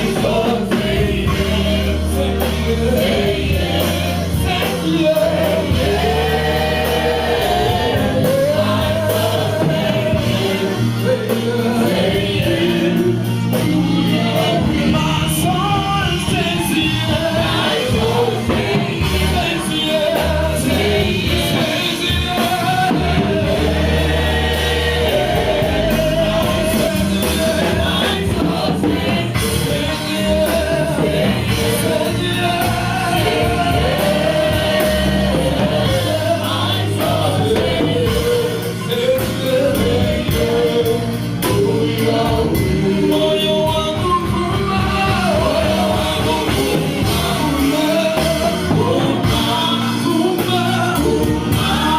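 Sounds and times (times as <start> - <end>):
gospel choir singing with band: 0.0 - 51.9.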